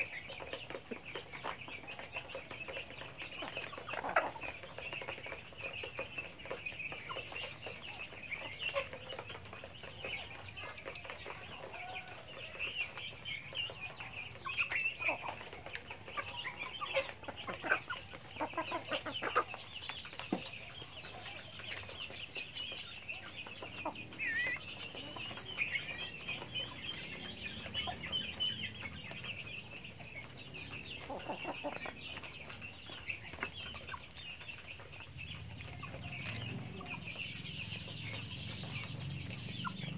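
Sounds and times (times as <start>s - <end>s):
chickens clucking softly: 0.0s - 39.9s.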